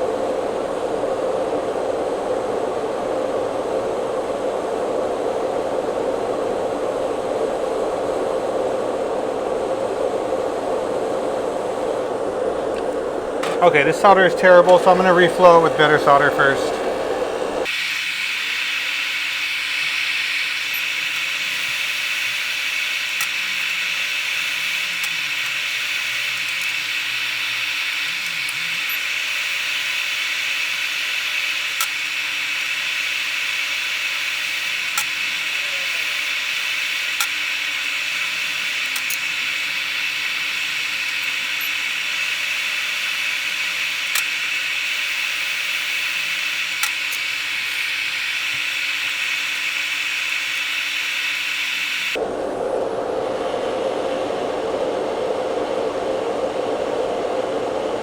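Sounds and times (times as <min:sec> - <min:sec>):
extractor fan airflow hiss: 0:00.0 - 0:58.0.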